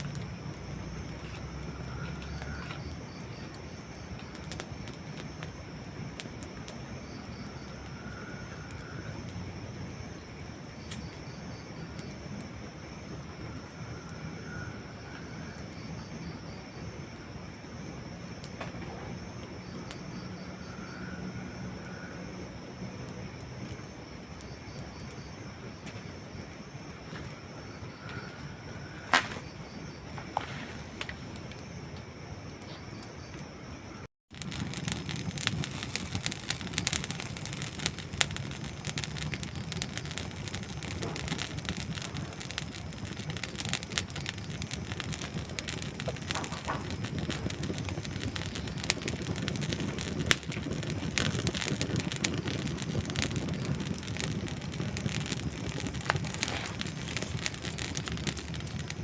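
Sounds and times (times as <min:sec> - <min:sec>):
campfire crackling and popping: 0:00.0 - 0:59.0
hiss of flame: 0:00.0 - 0:59.0.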